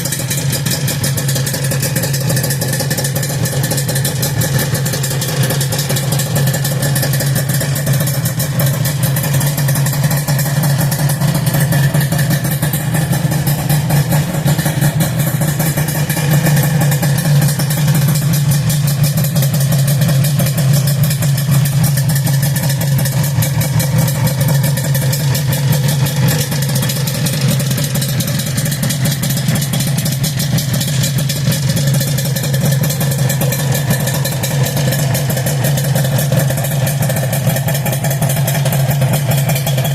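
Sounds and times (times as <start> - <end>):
two-stroke engine idling: 0.0 - 39.9.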